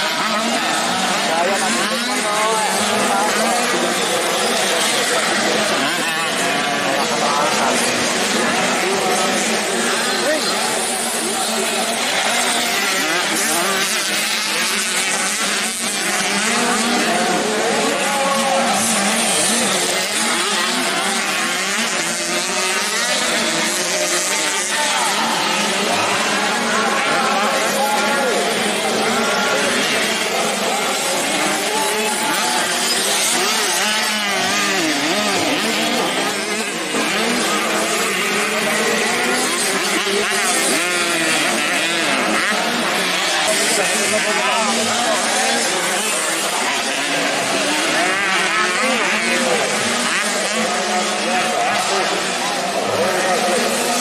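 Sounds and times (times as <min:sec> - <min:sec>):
dirt-bike engines racing: 0:00.0 - 0:54.0.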